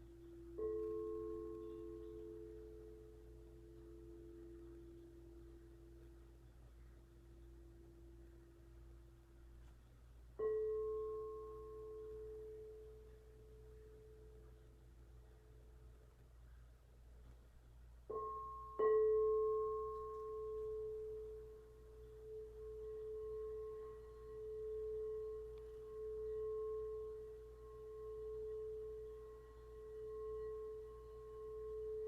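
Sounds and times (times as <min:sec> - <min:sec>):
crystal singing bowl ringing: 0:00.0 - 0:09.5, 0:10.2 - 0:16.1, 0:18.0 - 0:32.0.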